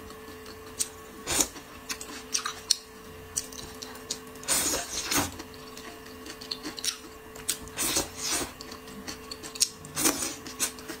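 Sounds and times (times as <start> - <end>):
chewing: 0.1 - 4.2, 4.8 - 11.0.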